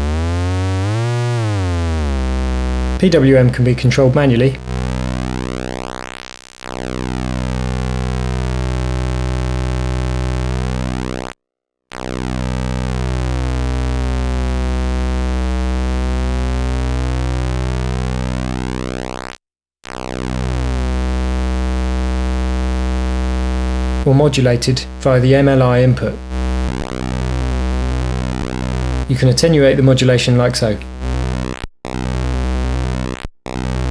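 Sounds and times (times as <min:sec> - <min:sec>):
square-wave oscillator buzz: 0:00.0 - 0:33.9.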